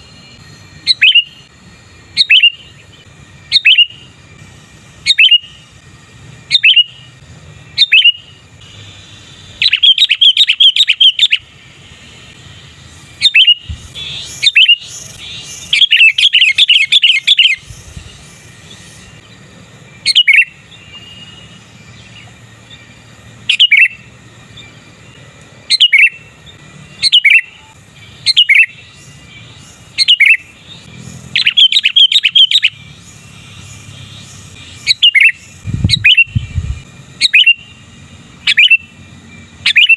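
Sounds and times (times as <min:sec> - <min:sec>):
bird chirping: 0:00.0 - 0:01.5, 0:02.1 - 0:04.1, 0:05.0 - 0:05.8, 0:06.4 - 0:39.9
bird repeated note runs: 0:00.0 - 0:39.9.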